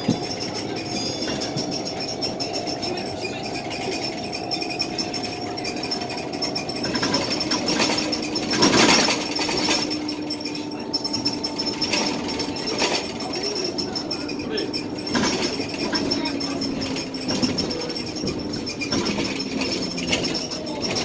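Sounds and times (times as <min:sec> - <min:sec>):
bus diesel engine humming: 0:00.0 - 0:21.0
rattling of panels and fittings: 0:00.0 - 0:21.0.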